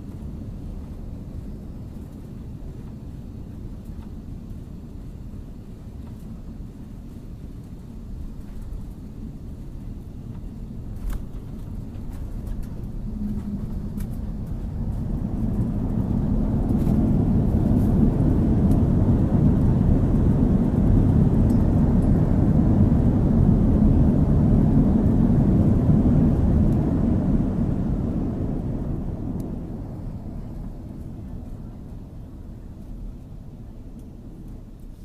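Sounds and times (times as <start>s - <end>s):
aircraft cabin engine rumble: 0.0s - 35.0s.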